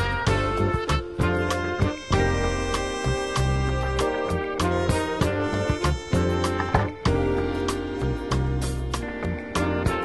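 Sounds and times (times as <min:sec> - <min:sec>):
instrumental music with a beat: 0:00.0 - 0:10.0.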